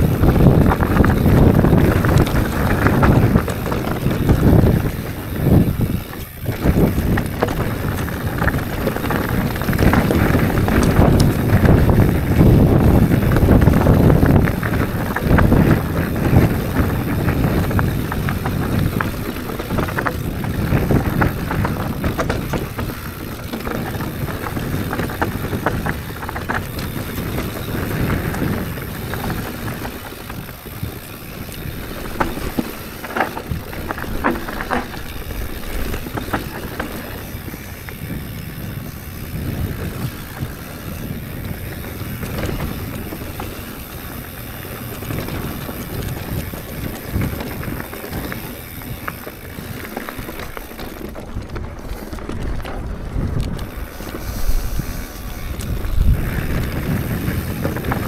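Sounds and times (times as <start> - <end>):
mountain bike rolling on dirt: 0.0 - 58.0
wind buffeting microphone: 0.0 - 58.0.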